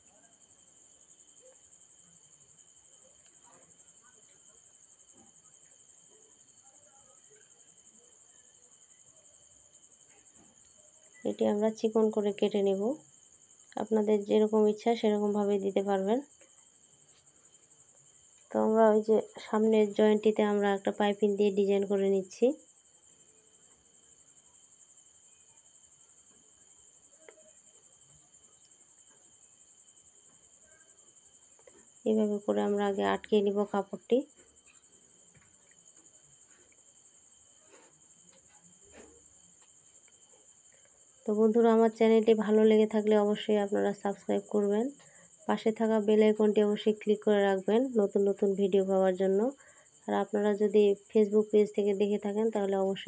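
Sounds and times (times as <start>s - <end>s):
high-pitched insect trill: 0.0s - 53.0s.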